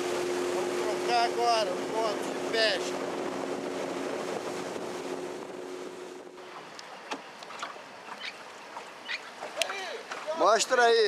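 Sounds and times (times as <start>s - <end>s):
motorboat engine: 0.0s - 11.0s
wind and water rushing: 0.0s - 11.0s.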